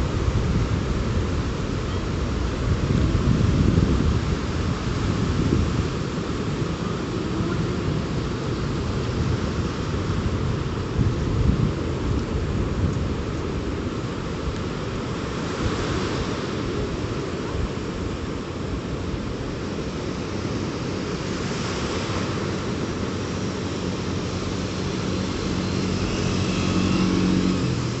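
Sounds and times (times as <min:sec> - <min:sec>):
low engine hum: 0:00.0 - 0:28.0
surf rushing: 0:00.0 - 0:28.0
wind buffeting microphone: 0:00.0 - 0:28.0.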